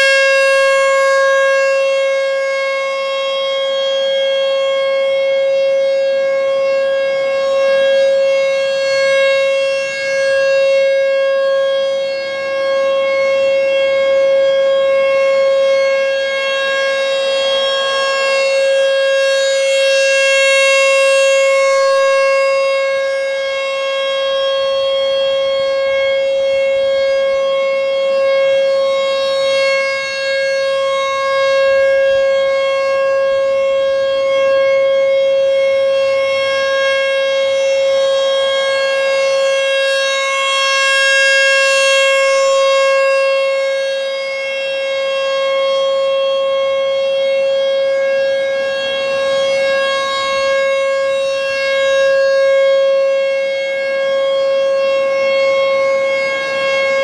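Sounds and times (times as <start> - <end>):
warning siren steady tone: 0.0 - 57.0.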